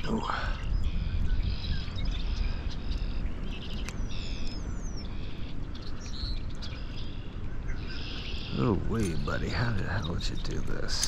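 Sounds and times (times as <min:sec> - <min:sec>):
birds singing trilled phrases: 0:00.0 - 0:11.0
wind rumbling on microphone: 0:00.0 - 0:11.0.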